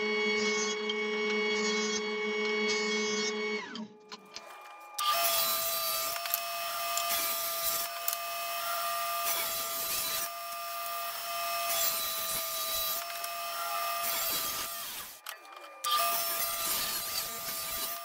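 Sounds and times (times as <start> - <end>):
table saw cutting board: 0.0 - 18.0.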